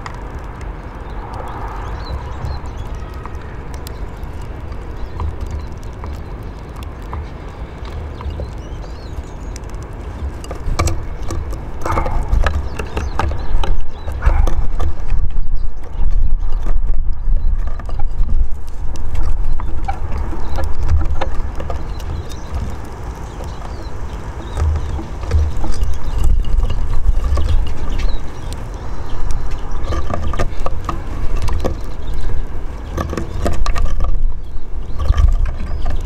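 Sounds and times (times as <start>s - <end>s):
birds pecking on wooden table: 0.0s - 36.0s
wind buffeting microphone: 0.0s - 36.0s.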